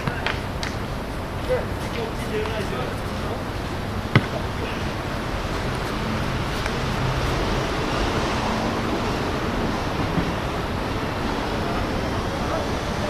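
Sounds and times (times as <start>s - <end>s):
distant traffic: 0.0s - 13.0s
wind: 0.0s - 13.0s.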